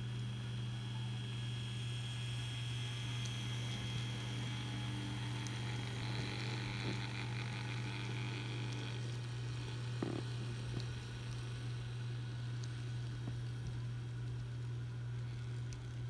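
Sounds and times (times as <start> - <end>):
faint high whir: 0.0 - 16.0.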